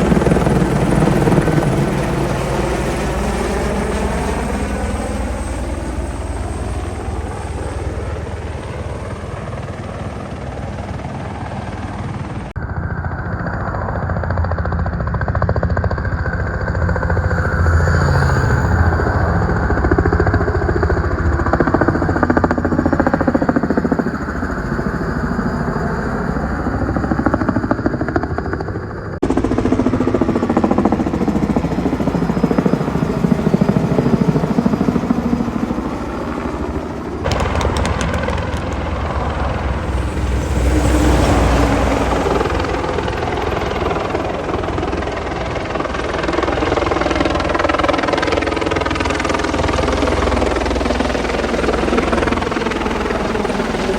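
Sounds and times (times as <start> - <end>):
helicopter rotor and turbine: 0.0 - 53.9.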